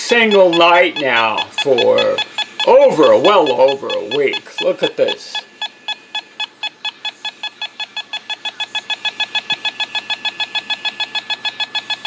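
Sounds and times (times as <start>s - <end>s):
meter beeping rapidly: 0.0s - 12.0s.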